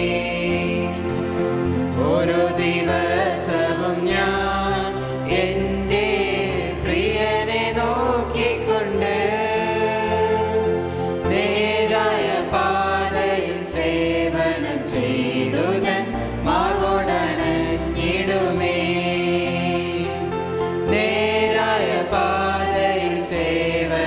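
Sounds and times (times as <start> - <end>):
hymn sung with instruments: 0.0 - 24.0.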